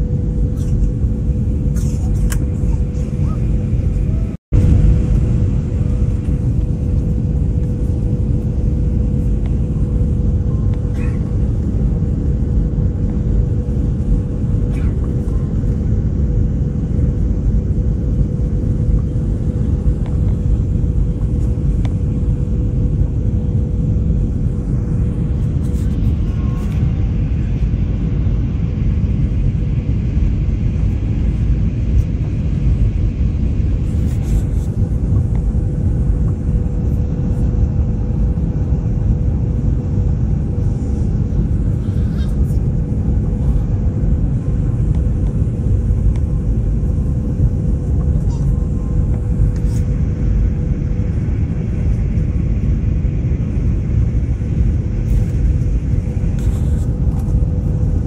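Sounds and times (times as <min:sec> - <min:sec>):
jet engine rumble: 0:00.0 - 0:58.0
steady hum-like tone: 0:00.0 - 0:58.0.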